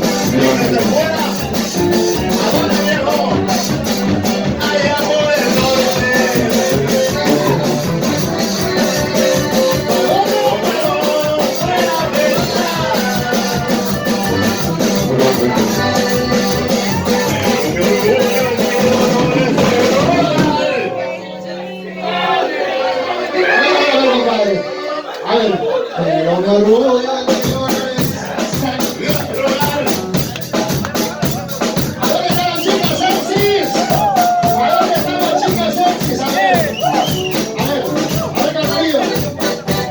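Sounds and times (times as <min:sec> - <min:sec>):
fast drum beat: 0:00.0 - 0:20.9, 0:27.2 - 0:39.9
brass band music with singing: 0:00.0 - 0:39.9
voices: 0:00.0 - 0:39.9.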